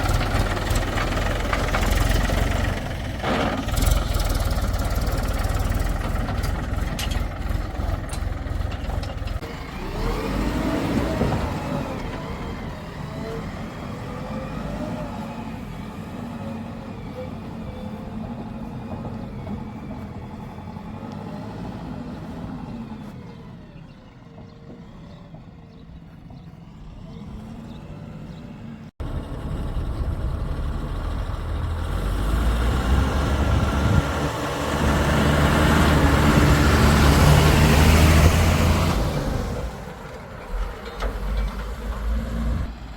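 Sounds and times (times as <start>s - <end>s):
diesel engine rumbling: 0.0s - 42.9s.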